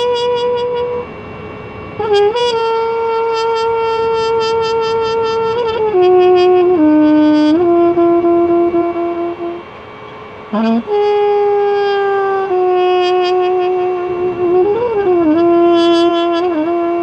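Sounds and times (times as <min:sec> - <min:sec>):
solo trumpet improvising: 0:00.0 - 0:01.1, 0:02.0 - 0:09.6, 0:10.5 - 0:17.0.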